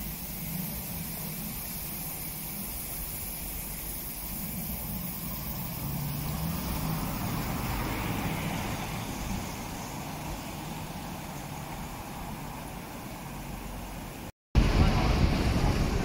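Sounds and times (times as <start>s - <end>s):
car engine pulling away: 0.0s - 16.0s.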